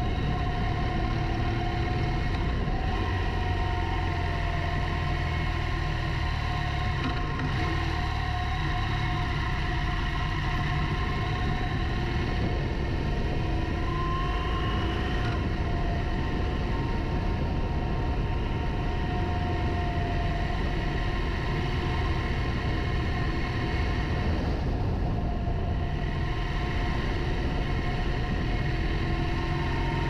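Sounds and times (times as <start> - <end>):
motorcycle engine running: 0.0 - 30.0
road noise: 0.0 - 30.0
wind: 0.0 - 30.0.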